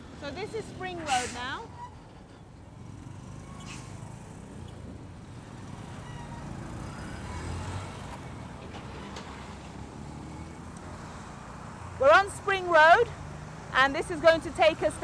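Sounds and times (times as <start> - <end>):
road and traffic noise: 0.0 - 15.0.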